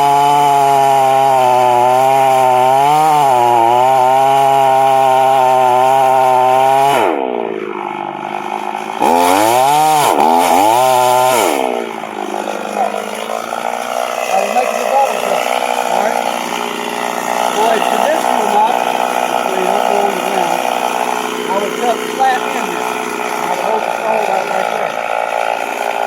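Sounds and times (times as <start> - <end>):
chainsaw revving and idling: 0.0 - 26.0.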